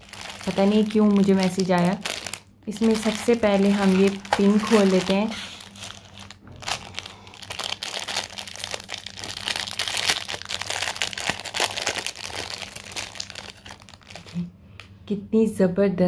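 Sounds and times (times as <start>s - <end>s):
plastic bag crinkling: 0.0s - 14.5s.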